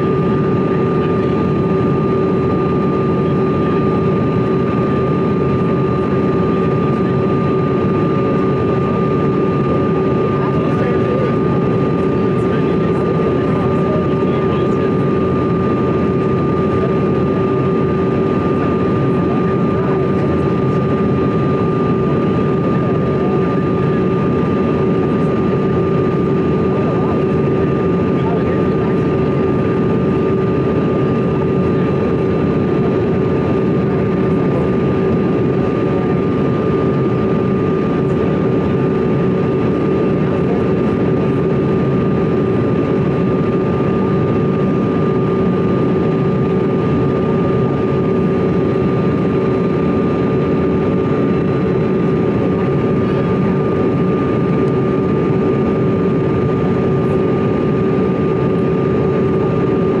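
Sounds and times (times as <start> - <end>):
airflow and engine rush: 0.0 - 60.0
jet engine whine: 0.0 - 60.0.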